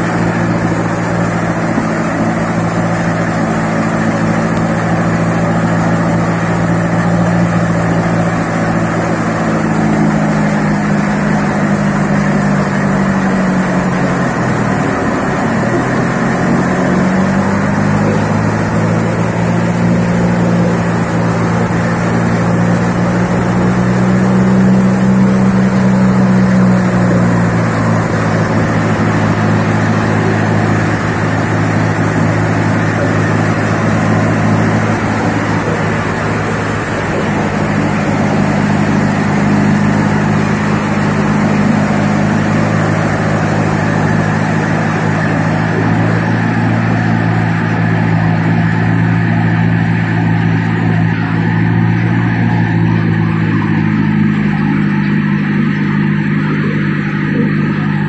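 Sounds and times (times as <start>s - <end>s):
engine drone: 0.0s - 58.0s
mill grinding sand: 0.0s - 58.0s.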